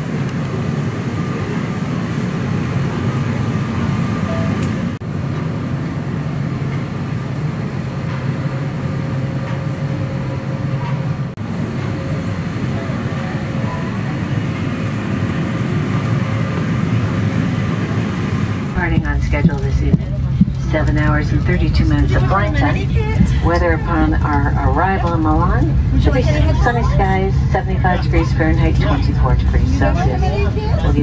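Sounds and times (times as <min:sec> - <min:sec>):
air-conditioning rushing hum: 0:00.0 - 0:31.0.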